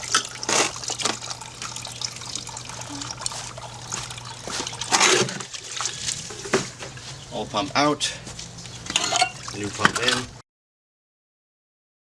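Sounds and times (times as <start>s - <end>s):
water trickling from hoses: 0.0s - 10.4s.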